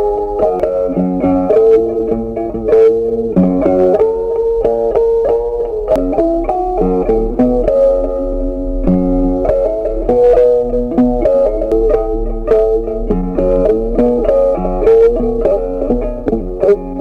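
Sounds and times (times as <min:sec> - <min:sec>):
low bass line: 0:00.0 - 0:17.0
plucked instrumental melody: 0:00.0 - 0:17.0.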